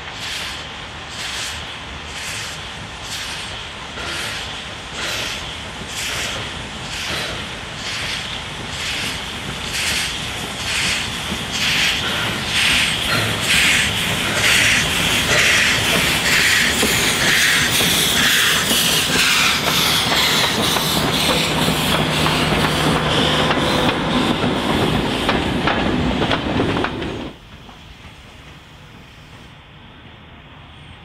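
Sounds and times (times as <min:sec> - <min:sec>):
train wheels clicking on rail joints: 0:00.0 - 0:29.6
steam locomotive chuffing: 0:00.0 - 0:29.7
steam hissing: 0:00.0 - 0:29.8.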